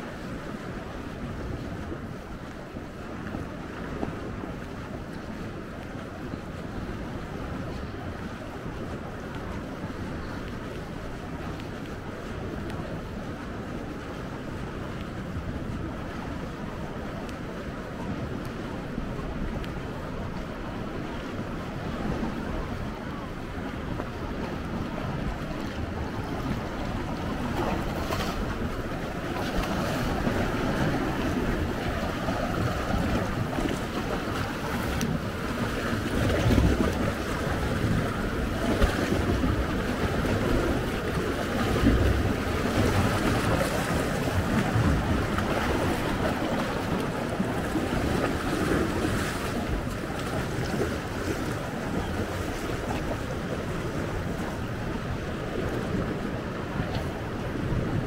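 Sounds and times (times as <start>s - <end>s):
sea waves lapping: 0.0s - 58.0s
wind gusting on microphone: 0.0s - 58.0s.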